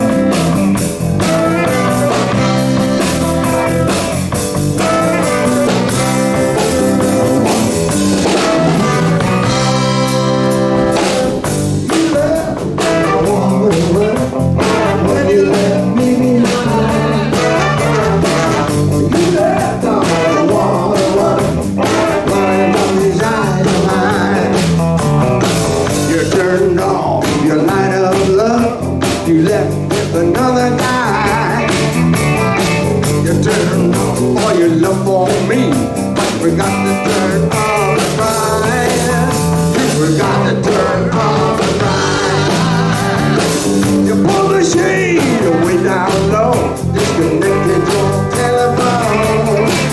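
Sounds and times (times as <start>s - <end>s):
guitar: 0.0s - 49.9s
live blues band playing: 0.0s - 49.9s.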